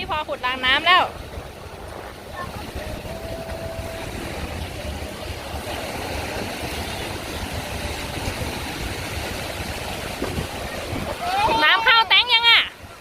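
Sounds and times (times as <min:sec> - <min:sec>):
sea waves on beach: 0:00.0 - 0:13.0
wind buffeting microphone: 0:00.0 - 0:13.0.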